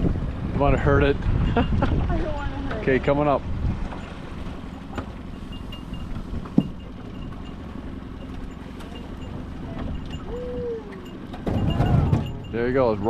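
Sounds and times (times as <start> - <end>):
boat rumbling: 0.0 - 13.0.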